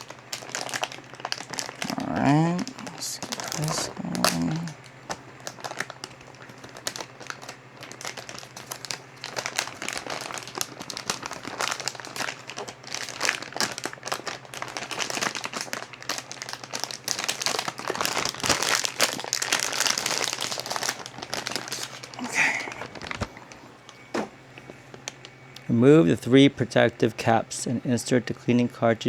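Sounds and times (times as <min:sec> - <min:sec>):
packaging crinkling and rustling: 0:00.0 - 0:25.7.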